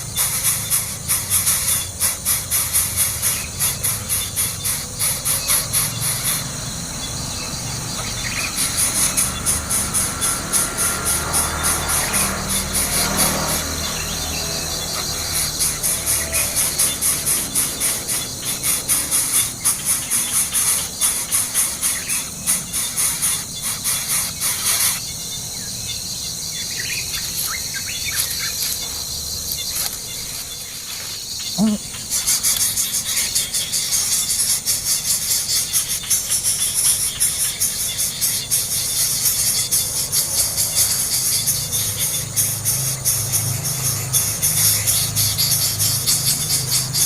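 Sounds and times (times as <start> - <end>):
faint bird chirps: 0.0 - 47.0
insects trilling: 0.0 - 47.0.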